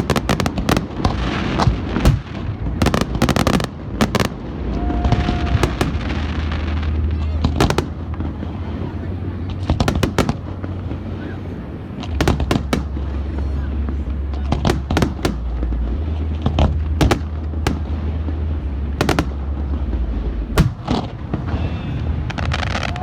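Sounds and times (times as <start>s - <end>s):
fireworks cracks and bangs: 0.0s - 23.0s
steady low rumble: 0.0s - 23.0s.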